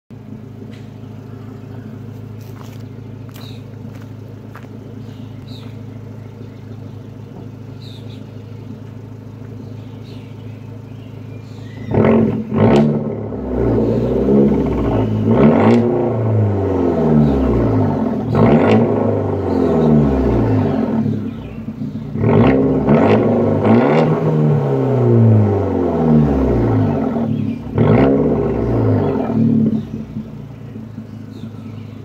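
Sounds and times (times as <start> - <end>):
car engine idling and revving: 0.1 - 32.0.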